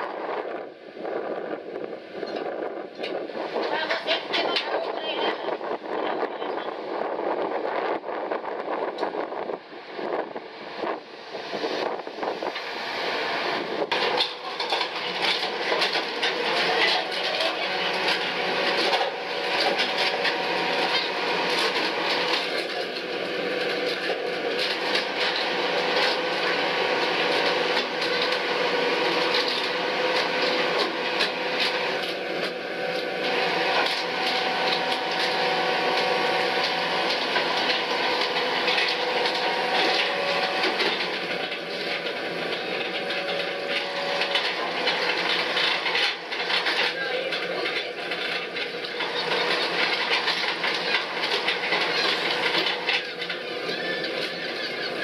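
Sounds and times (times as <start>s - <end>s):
winch mechanical hum: 0.0s - 55.0s.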